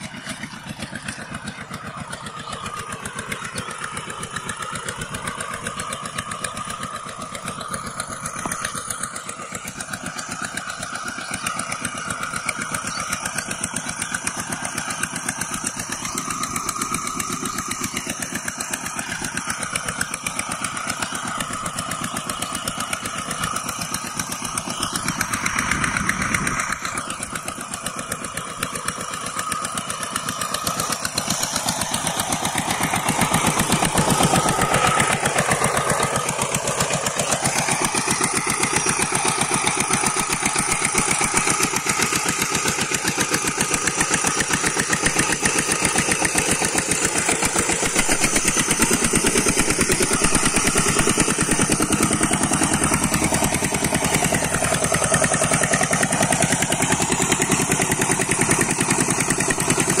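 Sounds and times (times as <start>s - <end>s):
diesel tiller engine running: 0.0s - 60.0s.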